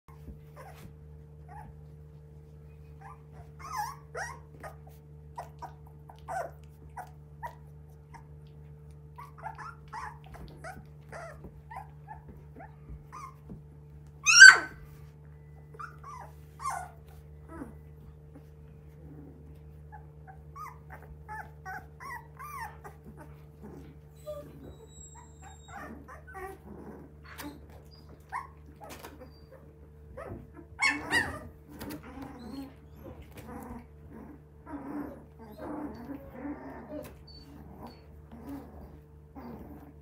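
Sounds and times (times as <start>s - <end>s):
puppy crying: 0.1s - 1.9s, 2.8s - 8.3s, 9.2s - 13.6s, 14.2s - 14.9s, 15.7s - 40.0s
puppies whimpering and squeaking: 0.1s - 40.0s.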